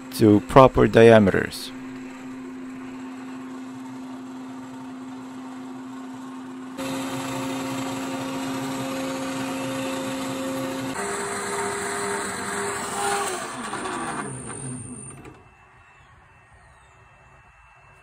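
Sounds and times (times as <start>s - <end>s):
lathe motor whine: 0.0s - 18.0s.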